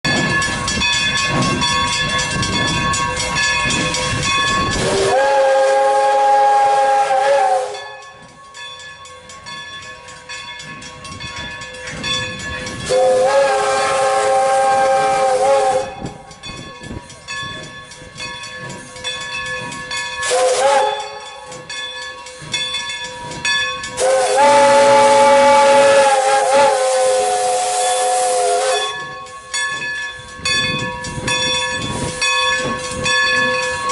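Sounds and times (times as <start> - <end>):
steam locomotive chime whistle: 0.1 - 33.9
steam hissing: 2.6 - 8.2, 11.7 - 33.9.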